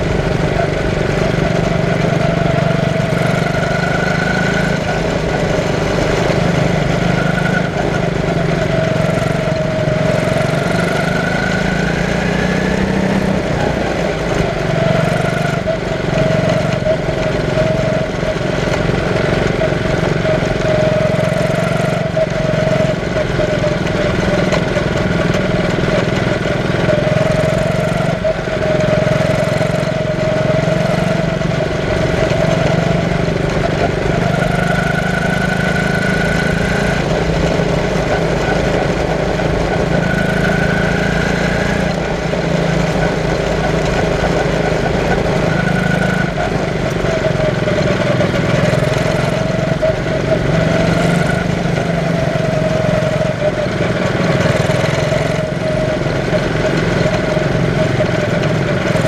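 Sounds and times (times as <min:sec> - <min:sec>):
small race car engine running: 0:00.0 - 0:59.0.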